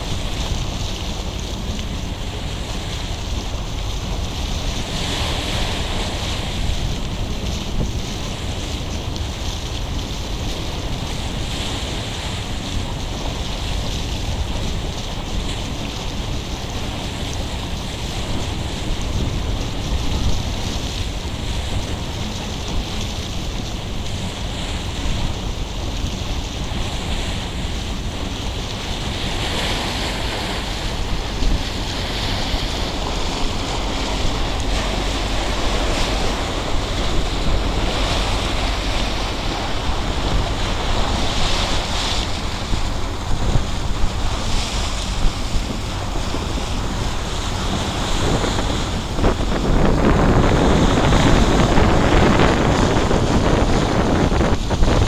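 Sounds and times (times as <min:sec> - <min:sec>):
steady low drone: 0:00.0 - 0:55.0
water splashing along boat hull: 0:00.0 - 0:55.0
wind buffeting microphone: 0:00.0 - 0:55.0.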